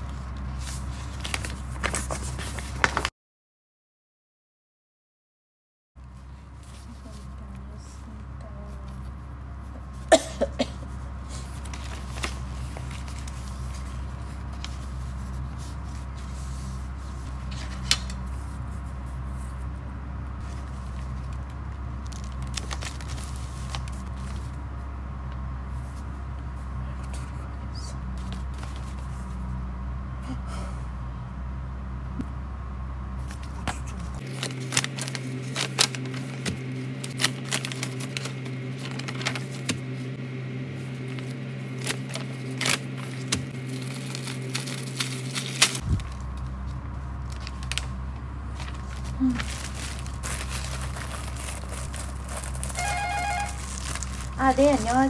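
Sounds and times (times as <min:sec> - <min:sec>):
paper and envelopes rustling: 0:00.0 - 0:03.1, 0:06.0 - 0:29.5, 0:33.2 - 0:55.0
steady low hum: 0:06.0 - 0:55.0.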